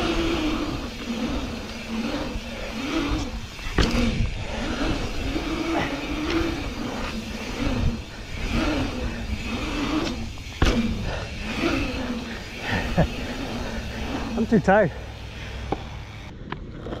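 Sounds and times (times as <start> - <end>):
low wind rumble: 0.0 - 16.8
bike tyres humming on pavement: 0.0 - 17.0.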